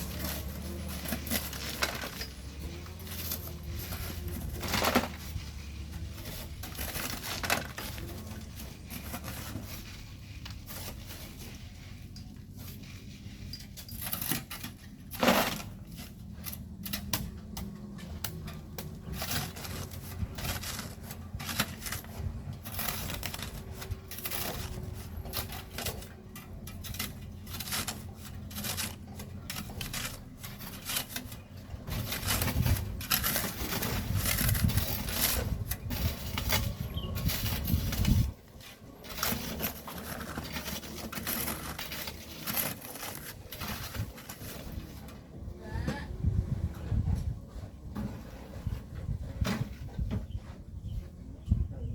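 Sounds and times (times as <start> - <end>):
shovels scraping in sand and stones: 0.0 - 45.8.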